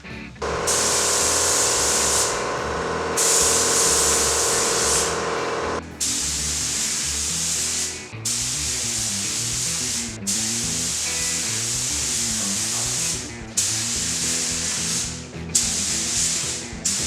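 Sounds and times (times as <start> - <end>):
spray gun hissing: 0.4 - 17.0.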